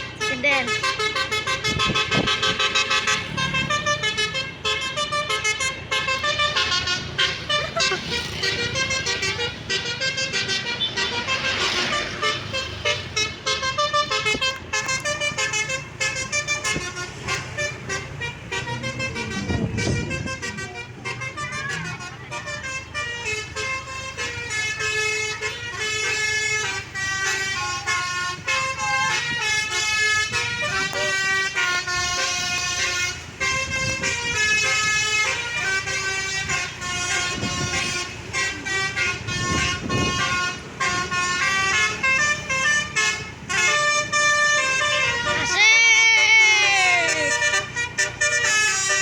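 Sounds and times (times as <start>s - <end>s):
multi-tone musical bus horn: 0.0s - 49.0s.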